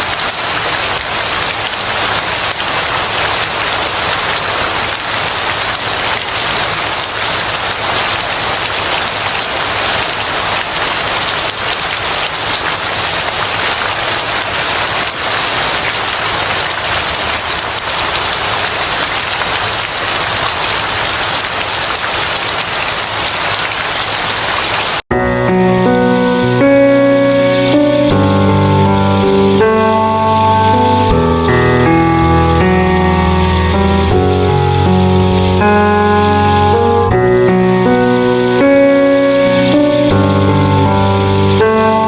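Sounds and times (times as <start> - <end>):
rain falling: 0.0 - 42.0.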